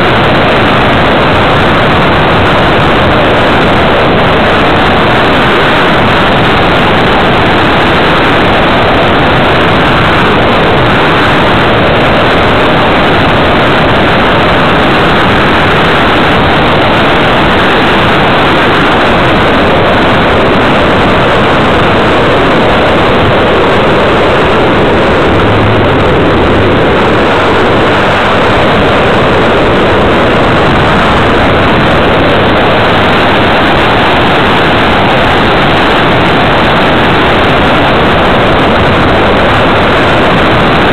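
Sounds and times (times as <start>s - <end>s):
air rushing over microphone: 0.0s - 40.9s.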